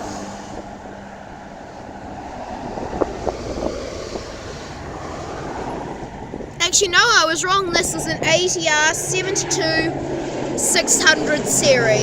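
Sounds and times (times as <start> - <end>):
turboprop engines droning: 0.0 - 12.0
wind buffeting microphone: 0.0 - 12.0.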